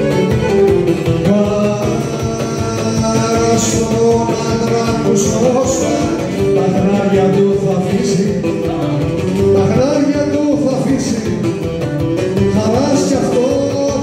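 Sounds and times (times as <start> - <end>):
lute and guitar accompaniment: 0.0 - 14.0
man singing: 0.0 - 14.0
violin: 0.0 - 14.0.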